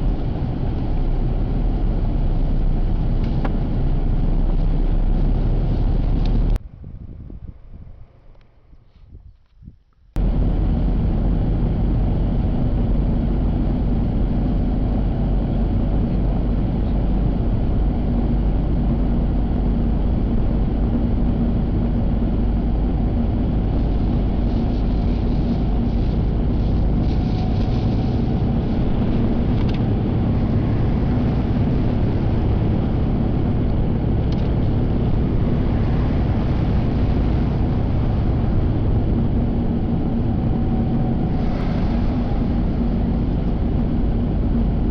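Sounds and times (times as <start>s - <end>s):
car engine and tyre noise: 0.0s - 44.9s.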